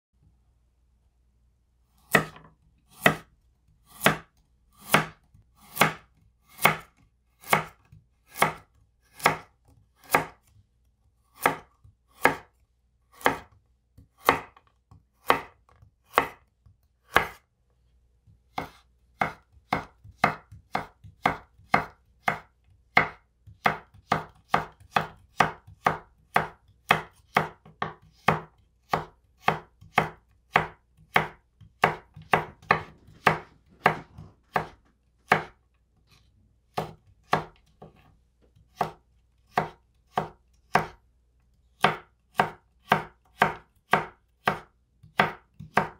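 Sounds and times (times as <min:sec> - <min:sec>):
knife chopping on wooden board: 0:02.0 - 0:10.6, 0:11.3 - 0:17.4, 0:18.3 - 0:41.0, 0:41.8 - 0:45.9.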